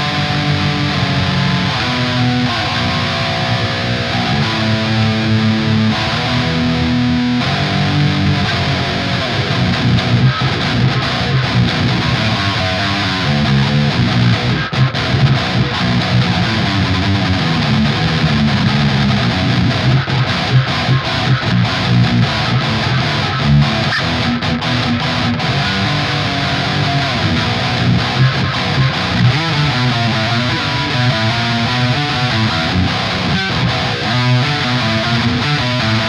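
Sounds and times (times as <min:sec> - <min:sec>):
distorted electric guitar riffing: 0:00.0 - 0:36.0.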